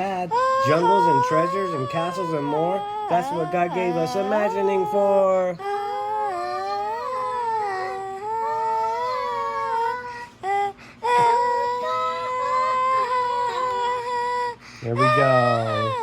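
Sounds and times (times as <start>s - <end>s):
high-pitched voice crooning: 0.0s - 16.0s.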